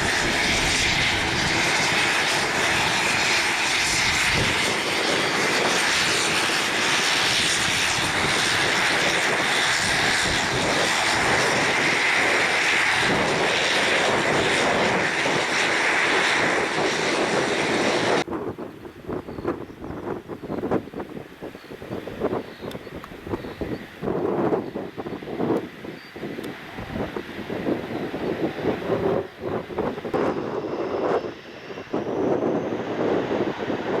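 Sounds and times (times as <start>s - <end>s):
aircraft engines running: 0.0s - 34.0s
wind buffeting microphone: 0.0s - 34.0s.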